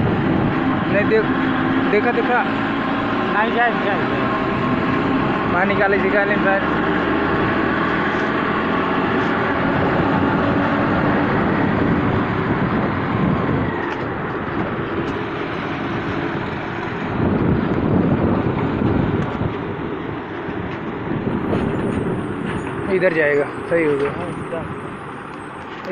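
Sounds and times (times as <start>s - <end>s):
wind noise: 0.0s - 1.9s, 3.9s - 25.7s
road noise: 0.0s - 25.9s.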